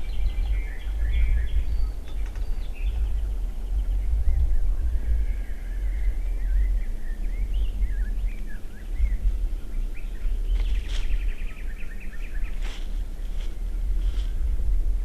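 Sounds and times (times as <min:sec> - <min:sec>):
low rumble: 0:00.0 - 0:15.0
songbirds singing: 0:00.0 - 0:15.0.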